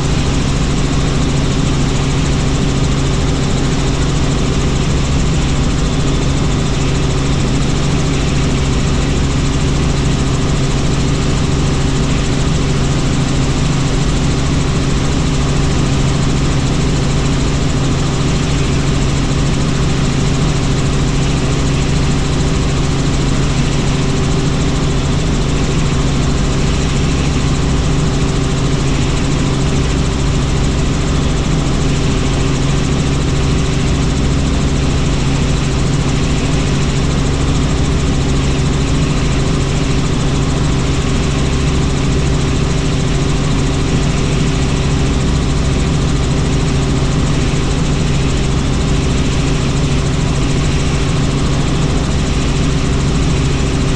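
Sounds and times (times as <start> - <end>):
helicopter rotor and engine drone: 0.0 - 53.9.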